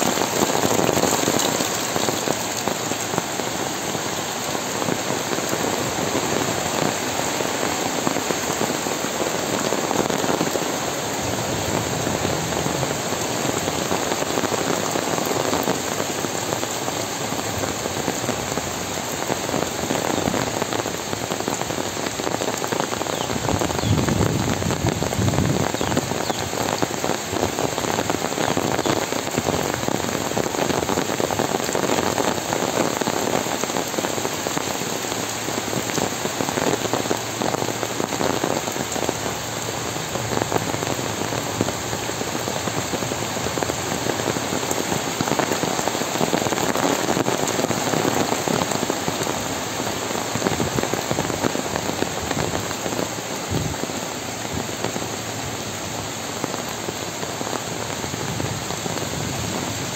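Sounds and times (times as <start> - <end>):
heavy rain on leaves and ground: 0.0 - 59.9.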